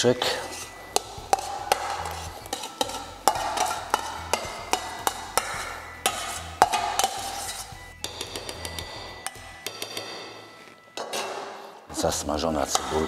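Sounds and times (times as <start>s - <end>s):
metal spoon scraping steel bowl: 0.0s - 11.6s.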